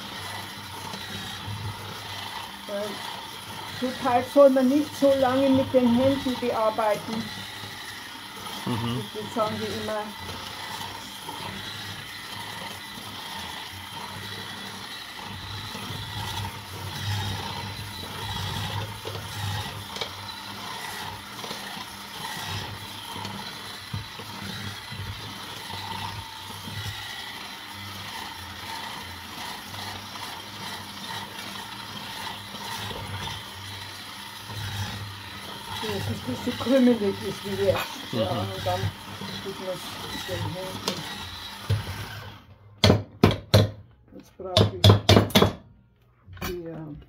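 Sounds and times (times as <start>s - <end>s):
electric hand mixer running: 0.0s - 43.7s.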